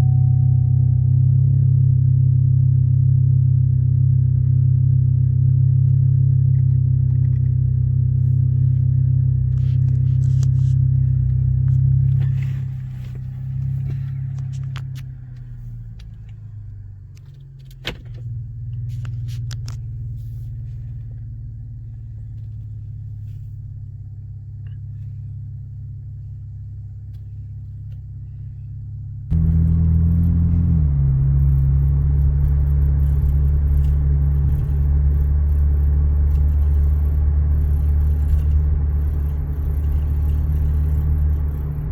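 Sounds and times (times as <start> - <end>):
exhaust drone inside car: 0.0 - 41.9.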